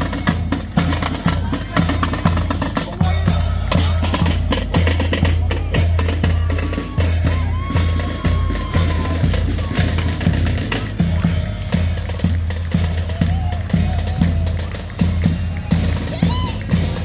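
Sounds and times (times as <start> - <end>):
marching drums rapid beat: 0.0 - 17.0.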